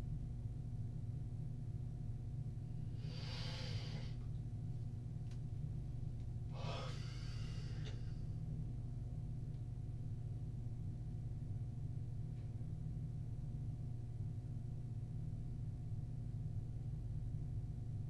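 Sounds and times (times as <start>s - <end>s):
ventilation drone: 0.0s - 18.0s.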